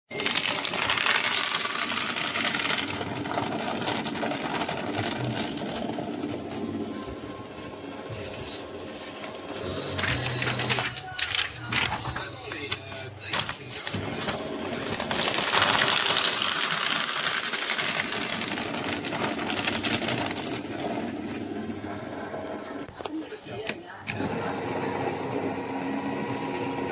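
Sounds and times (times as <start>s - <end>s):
paper shredder shredding paper: 0.1s - 23.0s, 24.1s - 26.9s.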